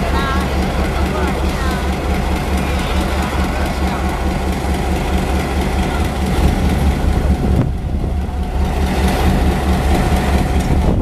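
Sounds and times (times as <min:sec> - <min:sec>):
locomotive engine humming: 0:00.0 - 0:11.0.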